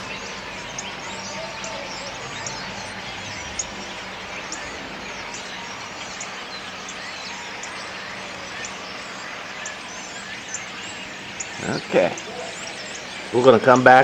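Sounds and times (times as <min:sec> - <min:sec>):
flock of birds chirping: 0:00.0 - 0:14.0.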